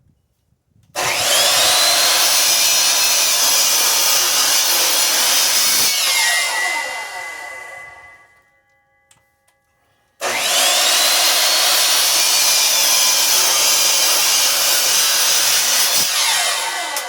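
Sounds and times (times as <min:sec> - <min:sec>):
miter saw cutting wood: 0:01.0 - 0:08.4, 0:10.2 - 0:17.0.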